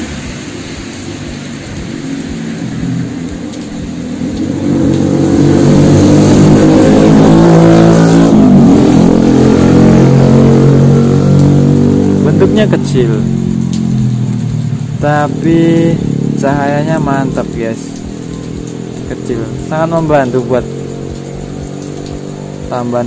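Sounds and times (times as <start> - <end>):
vehicle engine running close: 0.0 - 23.0.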